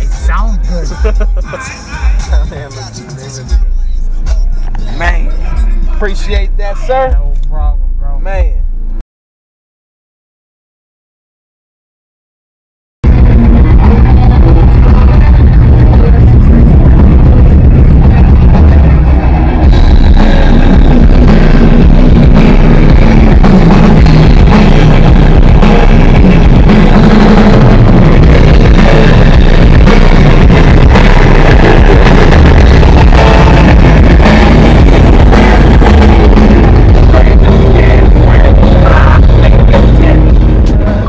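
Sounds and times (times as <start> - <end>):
loud bass-heavy music from subwoofers: 0.0 - 9.0, 13.0 - 41.0.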